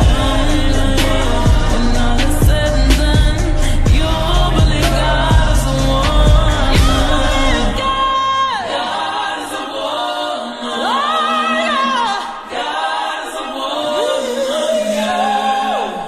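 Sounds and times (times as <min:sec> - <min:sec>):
layered voices singing long notes: 0:00.0 - 0:16.0.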